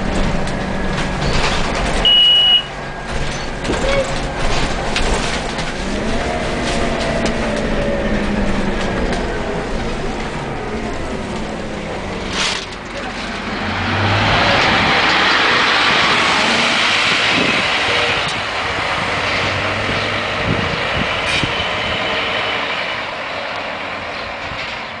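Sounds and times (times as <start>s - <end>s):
bus engine driving off: 0.0s - 25.0s.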